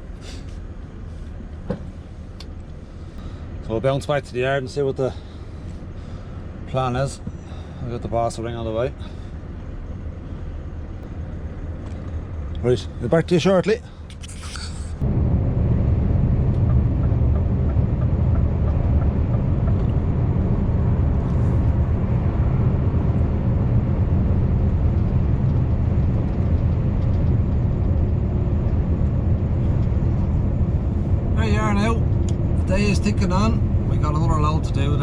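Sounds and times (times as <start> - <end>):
truck engine droning: 0.0 - 35.0.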